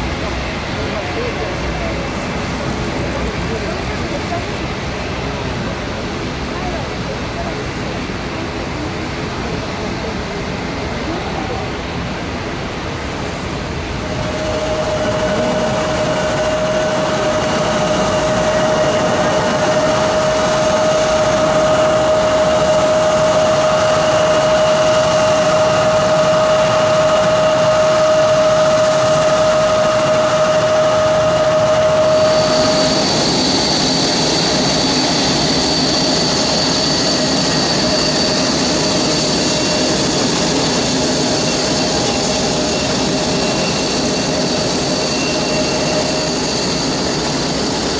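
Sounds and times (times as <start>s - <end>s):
higher-pitched whine: 0.0s - 47.9s
jet engine whine: 0.0s - 47.9s
jet engines rushing: 0.0s - 47.9s.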